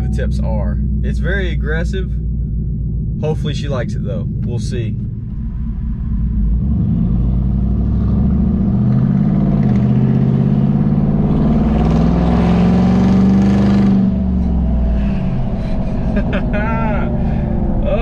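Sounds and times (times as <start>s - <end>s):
engine exhaust accelerating: 0.0s - 18.0s.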